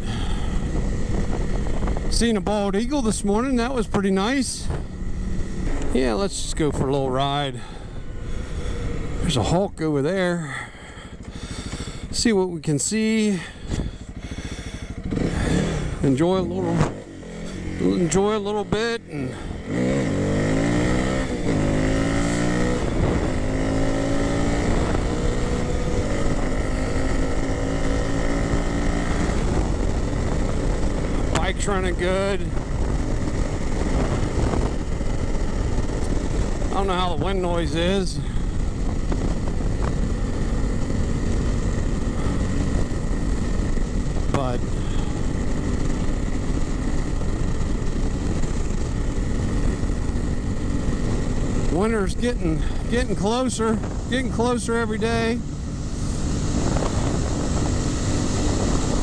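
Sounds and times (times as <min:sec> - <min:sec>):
motorcycle engine pulling: 0:00.0 - 0:59.0
wind rushing over microphone: 0:00.0 - 0:59.0.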